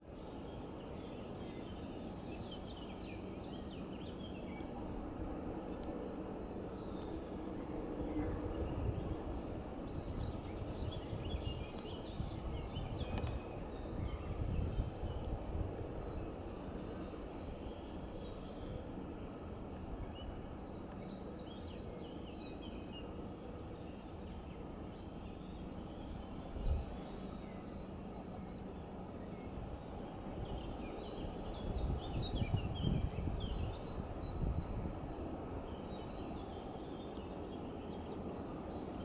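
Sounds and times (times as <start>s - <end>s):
wind rumbling on microphone: 0.0s - 39.0s.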